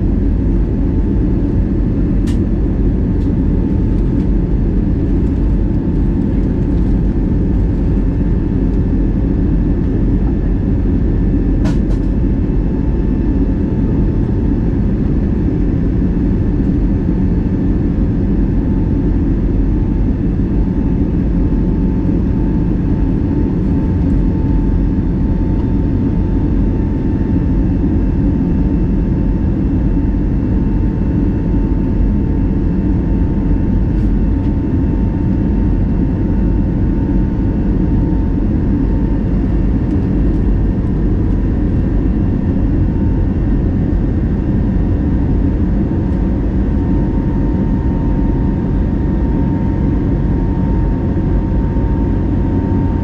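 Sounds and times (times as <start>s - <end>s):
airflow rushing in aircraft cabin: 0.0s - 53.0s
jet engines droning: 0.0s - 53.0s.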